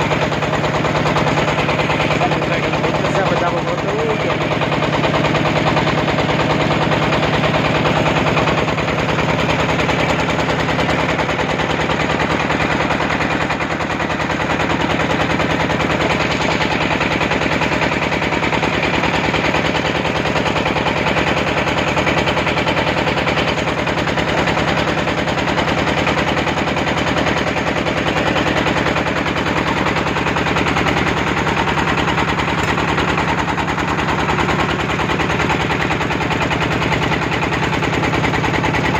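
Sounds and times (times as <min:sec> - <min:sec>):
boat engine chugging: 0:00.0 - 0:38.9.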